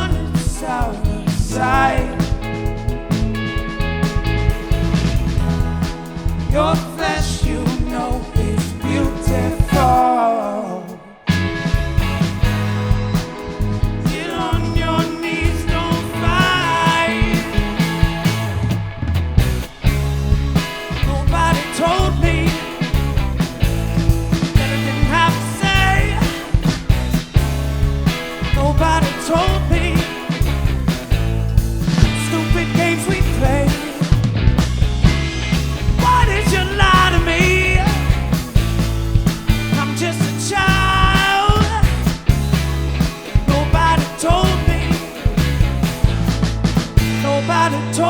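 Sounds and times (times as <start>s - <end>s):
driving bassline: 0.0s - 10.2s, 11.3s - 48.0s
drums: 0.0s - 48.0s
funk band playing: 0.0s - 48.0s
melodic lead line: 0.0s - 48.0s.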